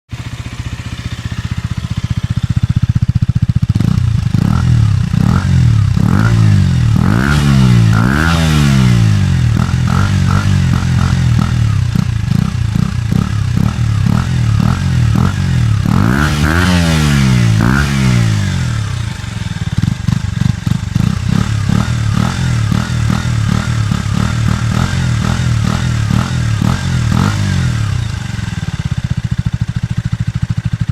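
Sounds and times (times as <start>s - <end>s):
motorcycle engine revving: 0.1s - 30.9s.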